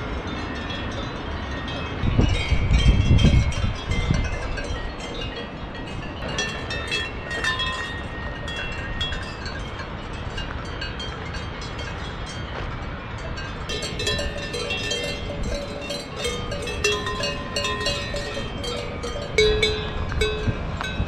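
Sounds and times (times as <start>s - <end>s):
cowbells clanking: 0.0s - 21.0s.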